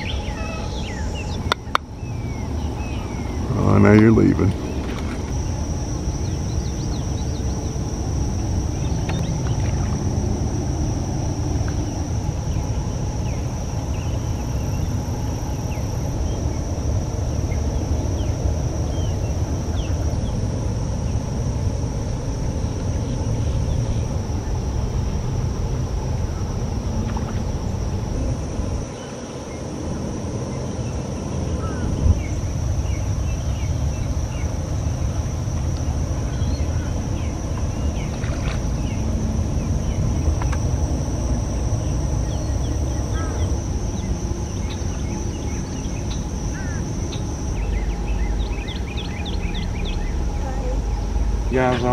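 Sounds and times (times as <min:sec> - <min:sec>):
high-pitched hum: 0:00.0 - 0:51.9
low rumbling background noise: 0:00.0 - 0:51.9.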